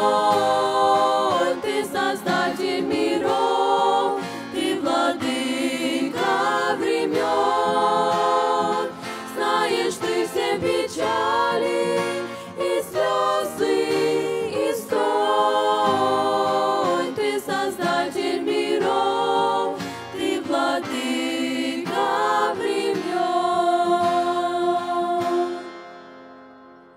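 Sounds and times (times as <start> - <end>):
women singing in harmony: 0.0 - 26.0.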